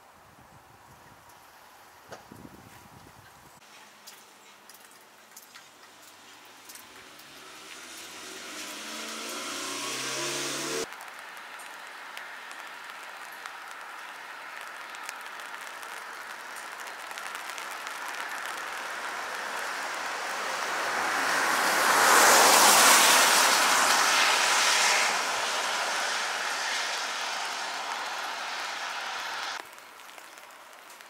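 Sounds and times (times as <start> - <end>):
tyres hissing on wet road: 5.4 - 30.5.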